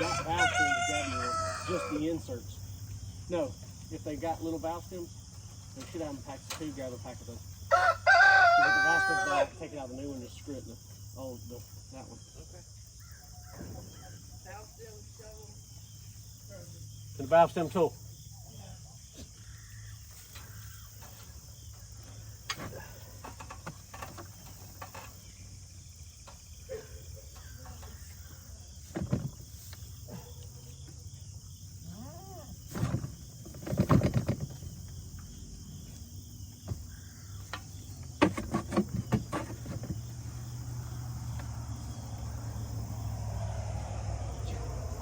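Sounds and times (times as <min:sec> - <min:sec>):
chorus of crickets: 0:00.0 - 0:45.0.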